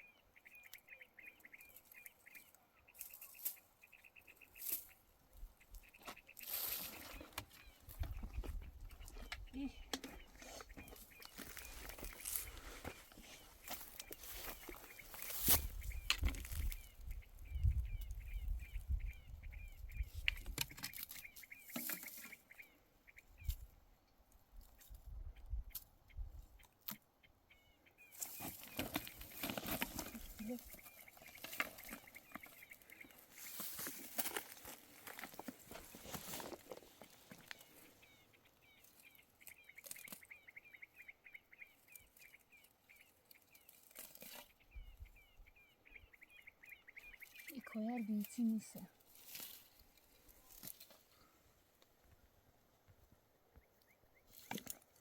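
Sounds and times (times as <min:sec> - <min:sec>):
bird chirping: 0:00.0 - 0:23.8, 0:24.7 - 0:35.4, 0:37.1 - 0:49.0.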